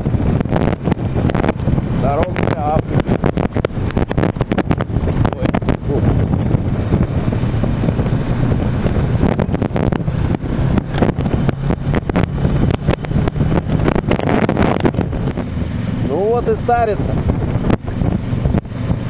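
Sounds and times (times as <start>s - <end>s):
knocks and jolts from rough road: 0.0s - 16.2s, 17.1s - 19.0s
motorcycle engine running: 0.0s - 19.0s
wind buffeting microphone: 0.0s - 19.0s.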